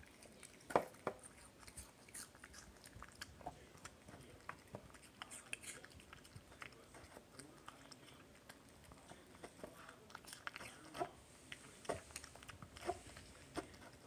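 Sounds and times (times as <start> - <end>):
puppy chewing and crunching: 0.0 - 14.0.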